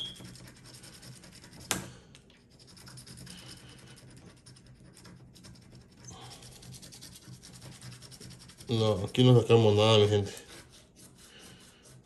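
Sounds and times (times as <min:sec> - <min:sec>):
scratch card being scratched: 0:00.0 - 0:01.8, 0:02.4 - 0:12.0.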